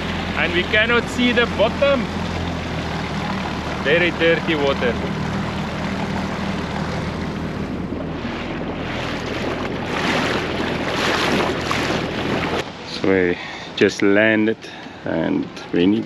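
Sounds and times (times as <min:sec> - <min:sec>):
outboard motor running: 0:00.0 - 0:13.8
water rushing past hull: 0:00.0 - 0:13.9.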